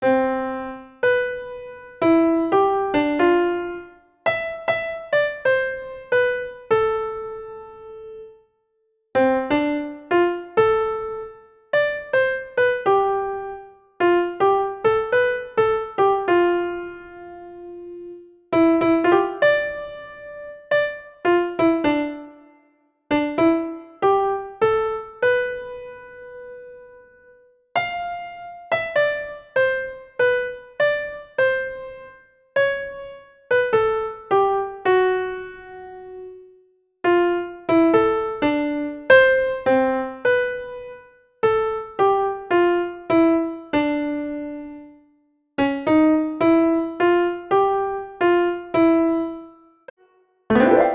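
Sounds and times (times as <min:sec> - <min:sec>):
gentle piano melody: 0:00.0 - 0:08.5, 0:09.2 - 0:45.0, 0:45.6 - 0:49.5, 0:50.5 - 0:50.9.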